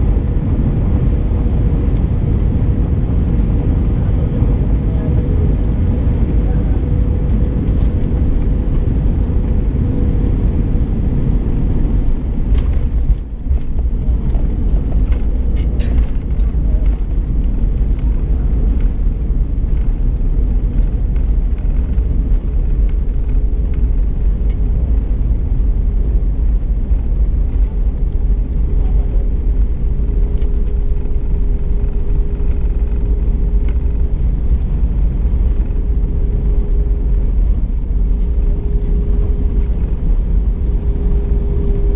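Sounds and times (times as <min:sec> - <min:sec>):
jet engines and airflow rumble: 0:00.0 - 0:41.9.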